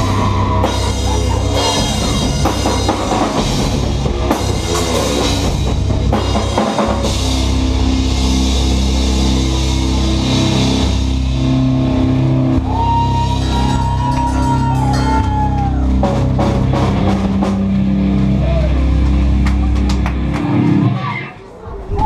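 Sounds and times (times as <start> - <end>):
high melodic guitar line: 0.0 - 21.4
live rock band playing: 0.0 - 21.4.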